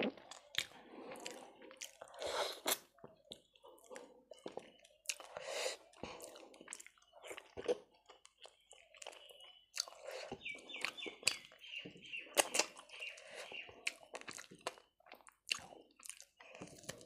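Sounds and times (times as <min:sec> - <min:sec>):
chewing and biting toast: 0:00.0 - 0:17.0.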